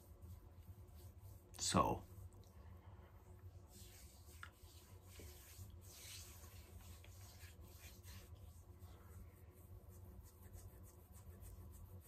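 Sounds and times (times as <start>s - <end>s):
hands rubbing balm on skin: 0.0s - 2.4s, 3.4s - 12.0s
faint low hum: 0.0s - 12.0s.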